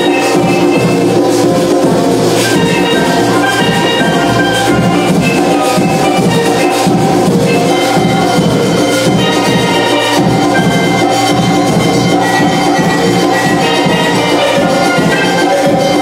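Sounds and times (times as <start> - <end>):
hand drums: 0.0 - 16.0
steel pans playing: 0.0 - 16.0.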